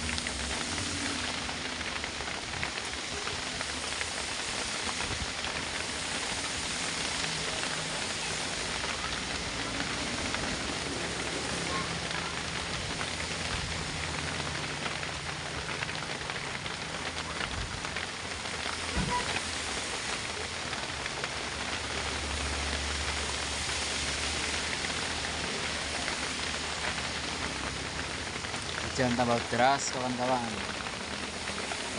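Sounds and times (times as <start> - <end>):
heavy rain pattering on truck: 0.0 - 31.9.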